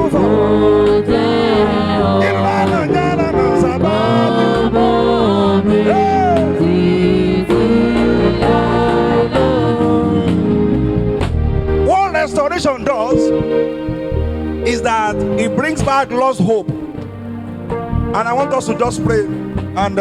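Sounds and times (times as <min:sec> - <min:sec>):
gospel worship song: 0:00.0 - 0:20.0.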